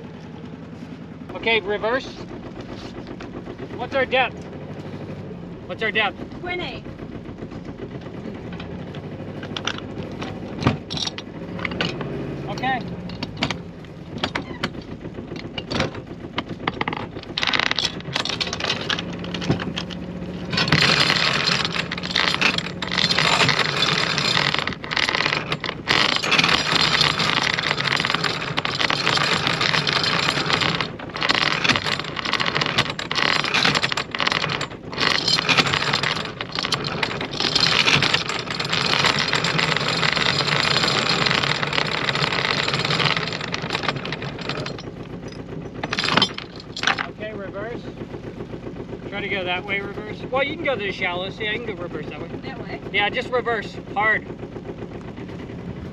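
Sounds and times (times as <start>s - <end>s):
anchor chain rattling and scraping: 0.0s - 55.7s
boat engine hum: 0.0s - 55.9s.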